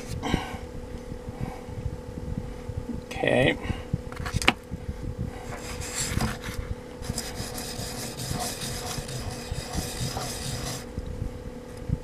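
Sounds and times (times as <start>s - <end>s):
small fan humming: 0.0s - 12.0s.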